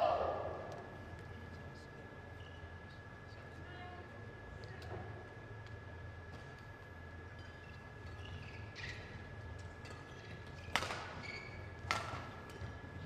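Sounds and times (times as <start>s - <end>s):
faint whine and hum: 0.0s - 13.0s.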